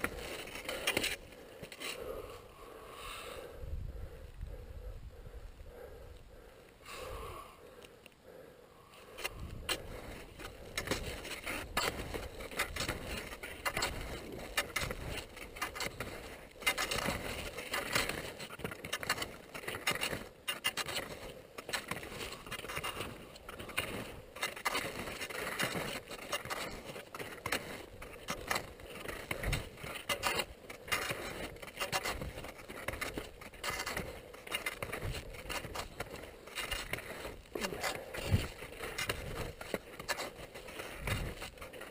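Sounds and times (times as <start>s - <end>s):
skis scraping over snow: 0.0s - 2.2s, 9.1s - 41.9s.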